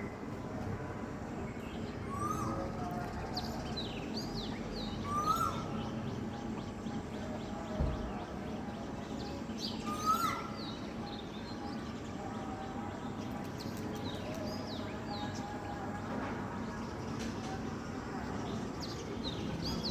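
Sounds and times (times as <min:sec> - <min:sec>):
birds chirping and calling: 0:01.6 - 0:15.9, 0:16.6 - 0:19.9.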